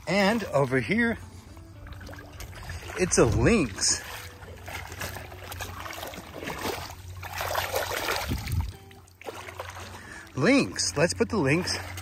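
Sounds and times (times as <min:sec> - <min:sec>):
water sloshing and trickling: 0:00.0 - 0:12.0.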